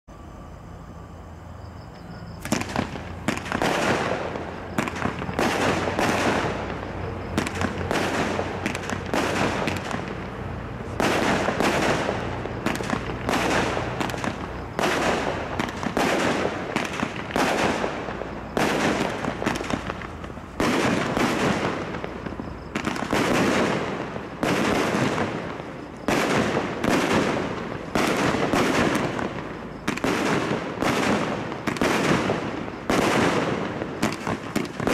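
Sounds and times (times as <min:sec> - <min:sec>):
fireworks bangs and bursts: 0:02.4 - 0:34.9.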